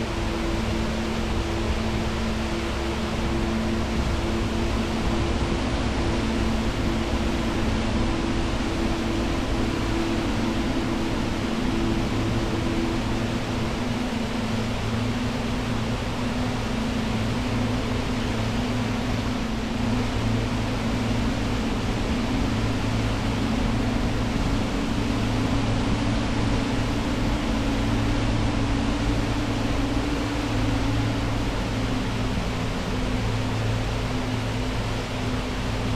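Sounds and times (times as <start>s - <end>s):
low steady tones: 0.0s - 35.9s.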